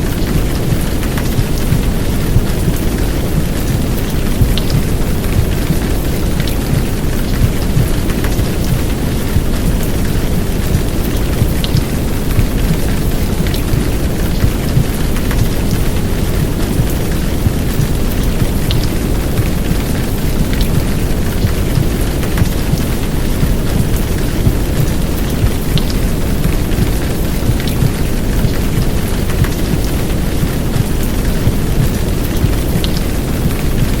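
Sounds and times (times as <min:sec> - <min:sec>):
deep low rumble white noise: 0:00.0 - 0:34.0
heavy rain: 0:00.0 - 0:34.0.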